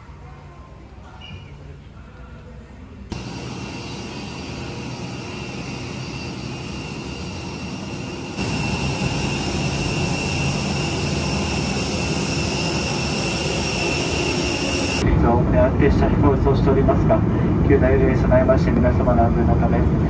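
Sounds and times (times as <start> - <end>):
jet turbine whine: 3.1 - 20.0.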